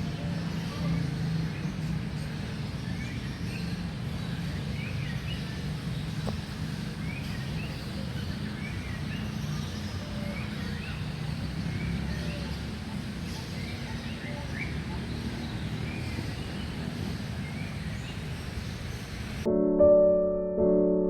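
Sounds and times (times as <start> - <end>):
distant city traffic hum: 0.0 - 19.5
small birds chirping: 0.0 - 19.5.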